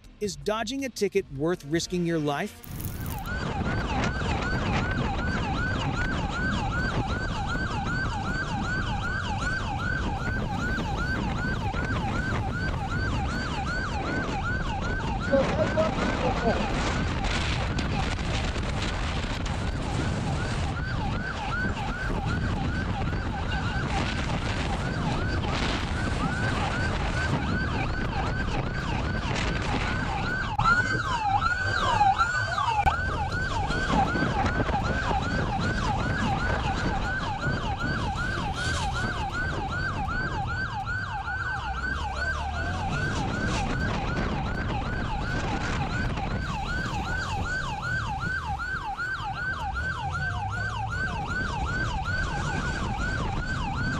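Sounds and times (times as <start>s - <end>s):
car road and engine noise: 0.0s - 53.9s
second siren: 0.1s - 53.9s
police siren yelping: 0.2s - 53.9s.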